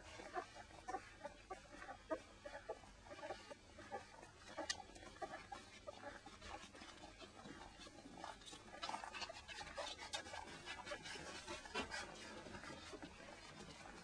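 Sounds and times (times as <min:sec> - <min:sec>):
puppies suckling: 0:00.0 - 0:14.0.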